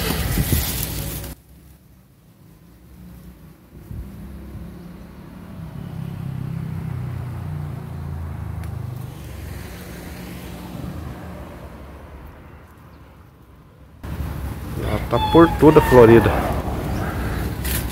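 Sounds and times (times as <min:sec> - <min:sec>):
vehicle engine passing by: 0:02.4 - 0:12.9, 0:14.0 - 0:17.9.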